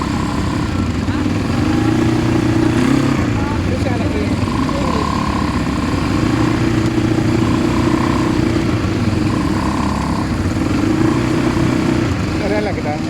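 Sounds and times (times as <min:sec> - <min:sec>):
atv engine running: 0:00.0 - 0:13.0
high engine whine: 0:00.0 - 0:13.0.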